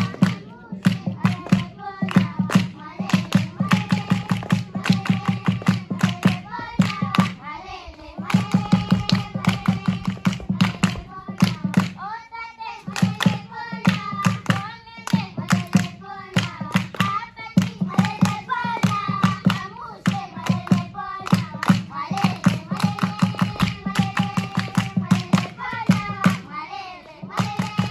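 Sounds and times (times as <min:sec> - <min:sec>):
rhythmic hand clapping: 0:00.0 - 0:27.9.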